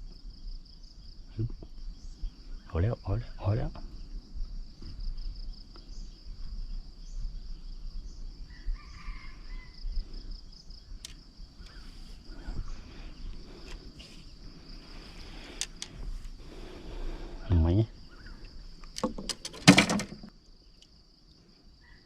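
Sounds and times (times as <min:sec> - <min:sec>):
insect chorus trilling: 0:00.0 - 0:22.0.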